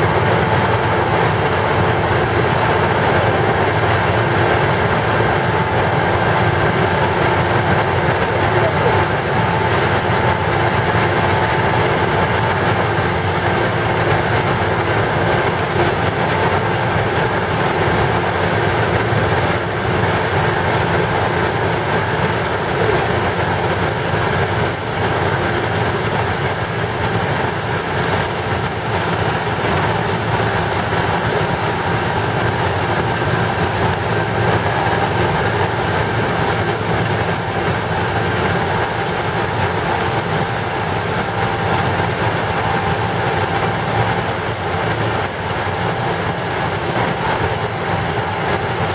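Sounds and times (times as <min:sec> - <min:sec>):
track repair machinery running: 0:00.0 - 0:48.9.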